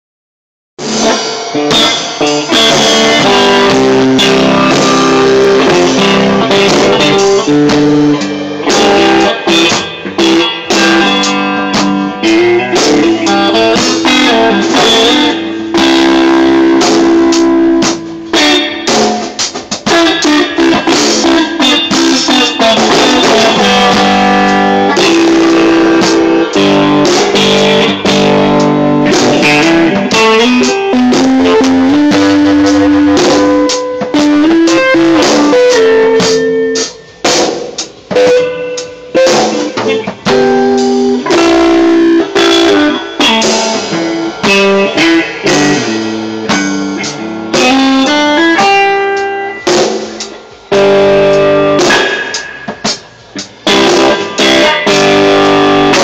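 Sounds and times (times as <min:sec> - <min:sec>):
drum kit: 0:00.8 - 0:56.0
electric guitar chords and riffs: 0:00.8 - 0:56.0.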